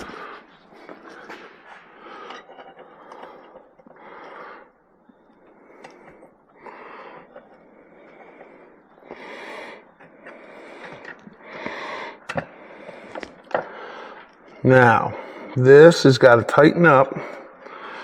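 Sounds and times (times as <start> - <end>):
man breathing heavily: 0.0 - 15.6, 17.1 - 18.0.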